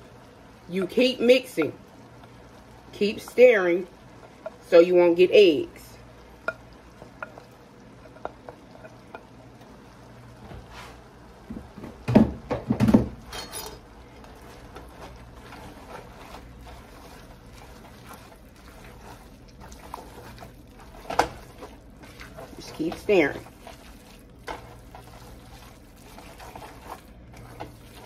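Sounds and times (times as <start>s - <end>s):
wet stirring of pasta in sauce: 0.0s - 4.8s, 6.1s - 11.4s, 13.2s - 28.0s.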